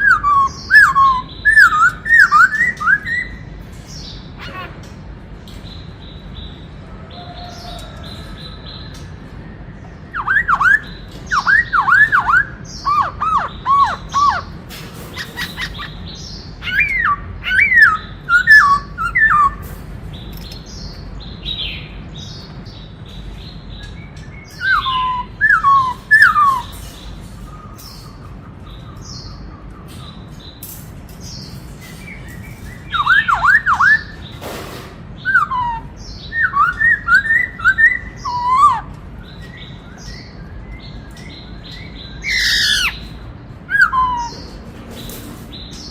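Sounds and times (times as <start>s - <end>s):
bird whistling song: 0.0s - 4.7s, 7.2s - 30.6s, 31.2s - 34.4s, 35.2s - 44.6s.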